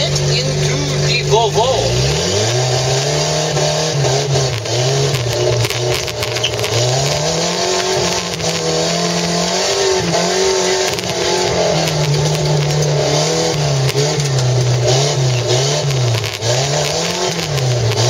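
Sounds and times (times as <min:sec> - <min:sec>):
car engine revving: 0:00.0 - 0:18.0
knocks and rattles in car: 0:03.1 - 0:18.0.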